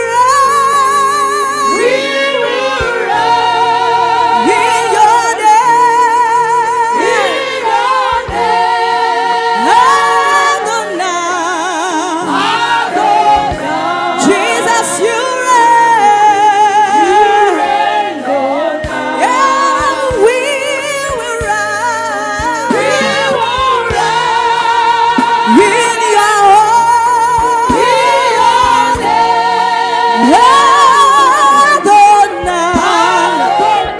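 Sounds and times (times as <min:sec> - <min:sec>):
instrumental accompaniment: 0:00.0 - 0:33.9
voices singing gospel: 0:00.0 - 0:33.9.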